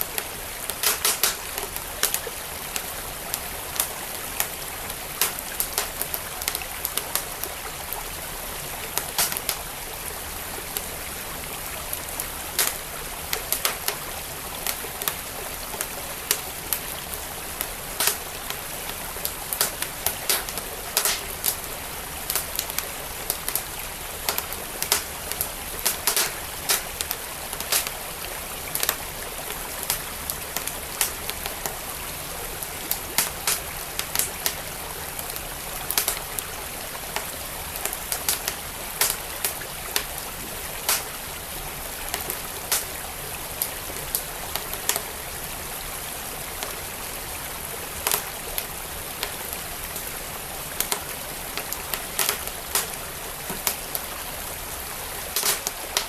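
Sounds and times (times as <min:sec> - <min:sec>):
wood fire crackling: 0:00.0 - 0:45.6, 0:46.4 - 0:56.0
creek flowing: 0:00.0 - 0:56.0.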